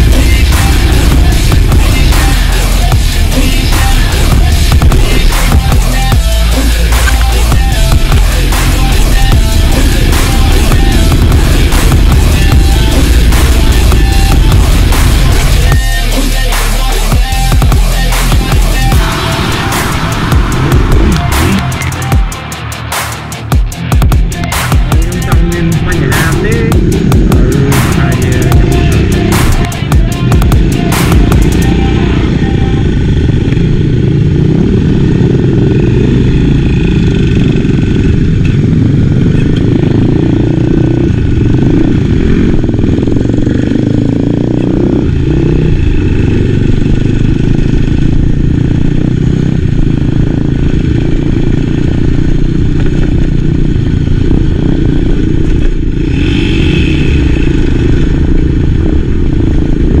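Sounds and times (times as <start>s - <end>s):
dirt bike engine running: 0.0s - 60.0s.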